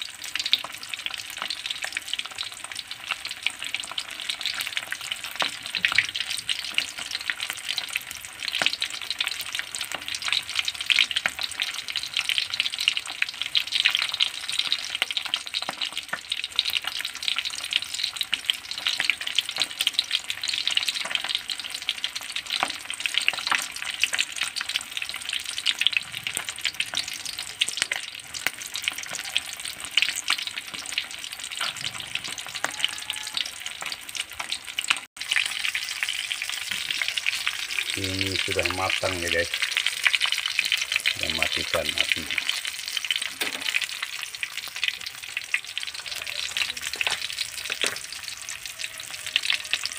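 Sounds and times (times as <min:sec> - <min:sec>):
fish frying in hot oil: 0:00.0 - 0:49.9.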